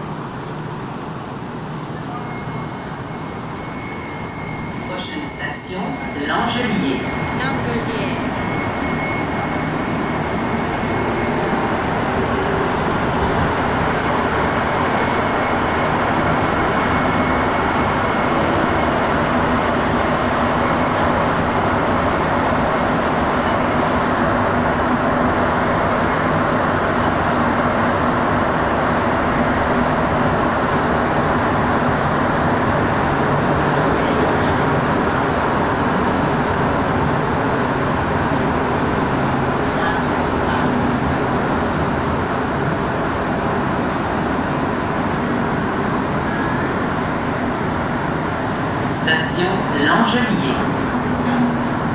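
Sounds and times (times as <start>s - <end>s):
metro train rumble: 0.0s - 51.9s.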